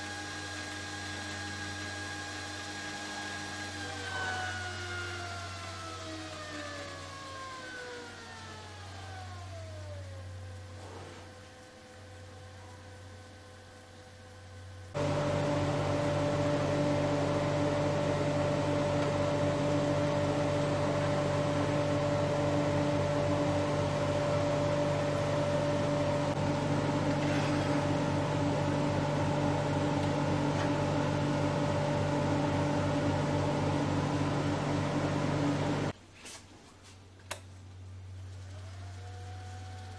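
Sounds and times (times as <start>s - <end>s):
lathe motor humming with a whine: 0.0s - 35.9s, 38.2s - 39.9s.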